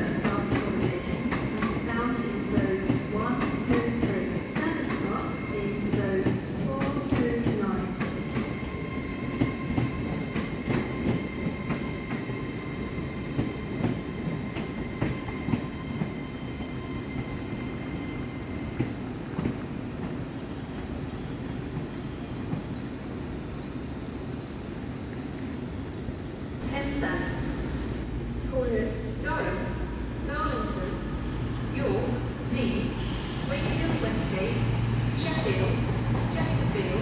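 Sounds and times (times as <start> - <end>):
train steady whine: 0.0 - 37.0.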